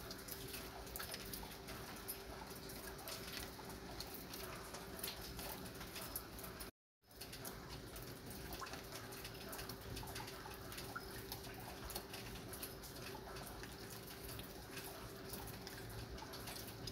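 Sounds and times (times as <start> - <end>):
light rain falling: 0.0 - 16.9.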